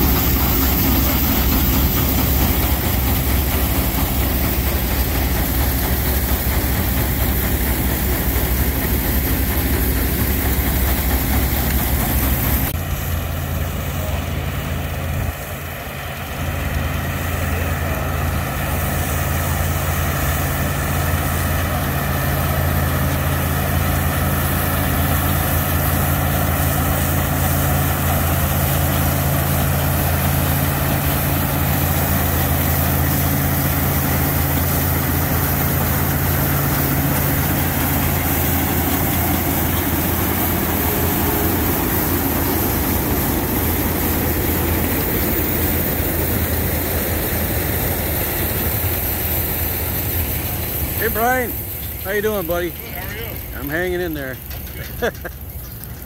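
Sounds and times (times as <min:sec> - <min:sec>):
threshing machine droning: 0:00.0 - 0:56.0
tractor engine under load: 0:00.0 - 0:56.0.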